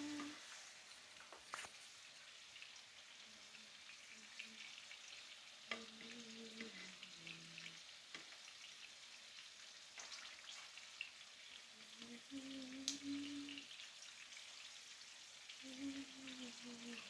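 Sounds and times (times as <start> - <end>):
peppers sizzling in oil: 0.0 - 17.0.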